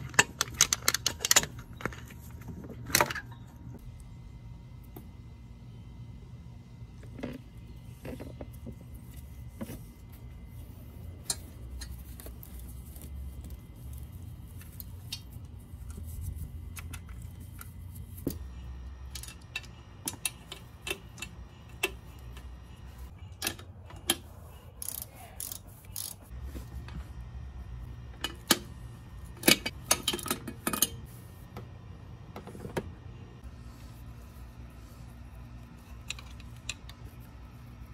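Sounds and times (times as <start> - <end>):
low steady hum: 0.0 - 37.9.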